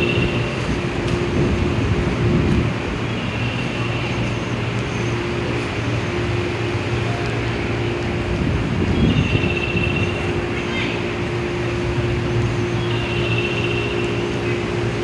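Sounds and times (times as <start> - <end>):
diesel locomotive engine drone: 0.0 - 15.0
train rumble: 0.0 - 15.0.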